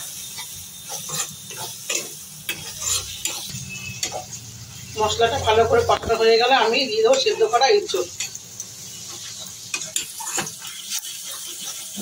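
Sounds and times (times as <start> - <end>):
metal spatula scraping a pan: 0.0 - 12.0
oil sizzling: 0.0 - 12.0.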